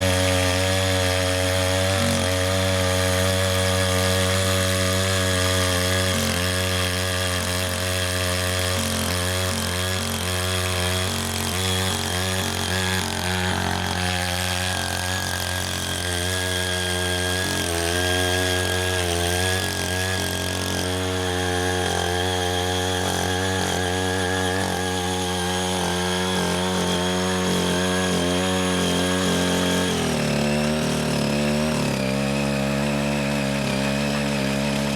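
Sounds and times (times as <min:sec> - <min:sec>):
tiller engine running: 0:00.0 - 0:34.9.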